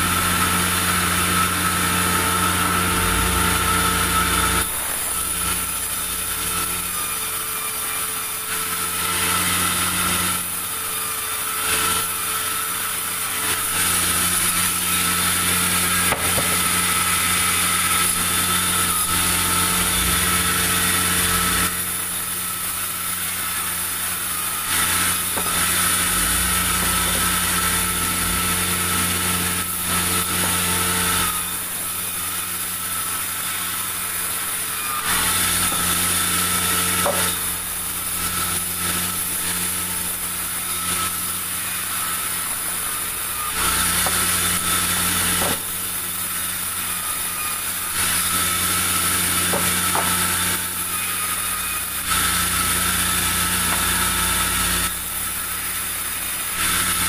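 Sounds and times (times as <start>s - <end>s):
band saw hum and whine: 0.0s - 11.0s, 13.6s - 57.0s
saw blade rasping through wood: 0.0s - 57.0s.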